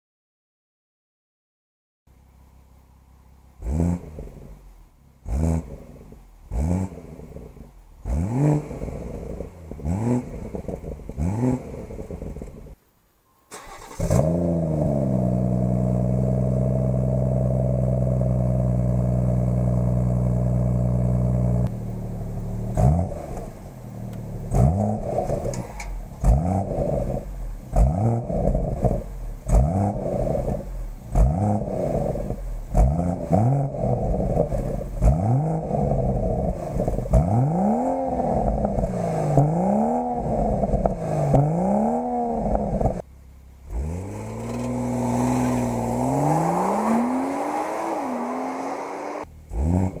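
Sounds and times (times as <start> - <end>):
car engine revving: 3.5 - 12.8, 13.5 - 50.0.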